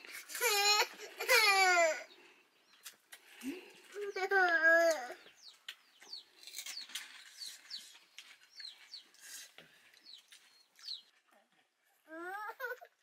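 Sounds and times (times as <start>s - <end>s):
faint bird chirping: 1.6s - 12.6s.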